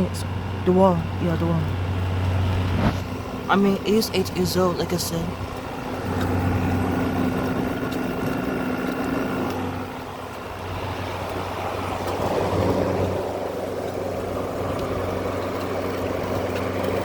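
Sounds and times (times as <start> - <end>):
air conditioner motor hum: 0.0 - 17.0
fan air rushing: 0.0 - 17.0.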